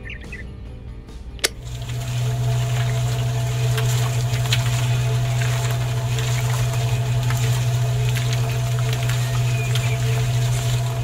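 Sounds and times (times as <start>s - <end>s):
small electric motor humming: 1.5s - 11.0s.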